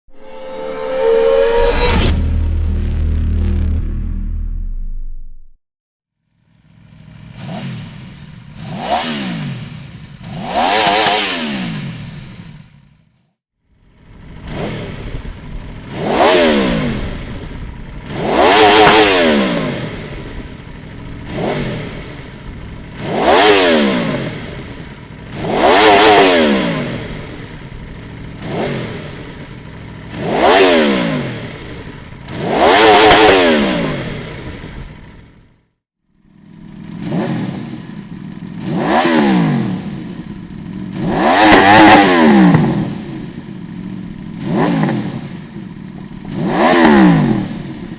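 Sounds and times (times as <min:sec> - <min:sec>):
motorcycle engine revving: 0:06.3 - 0:47.9.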